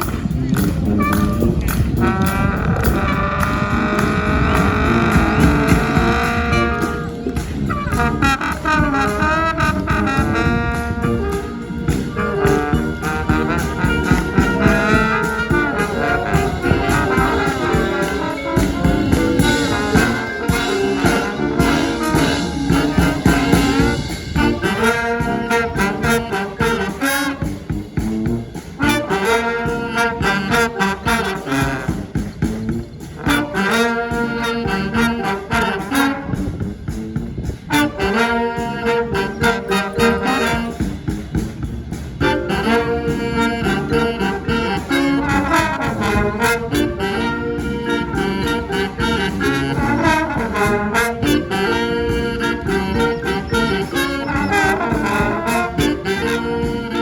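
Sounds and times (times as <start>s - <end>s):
brass band playing jazz: 0.0s - 57.0s.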